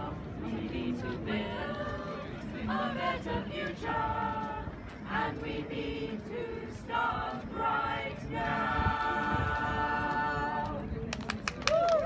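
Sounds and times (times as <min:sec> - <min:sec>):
mixed choir singing: 0:00.0 - 0:10.9.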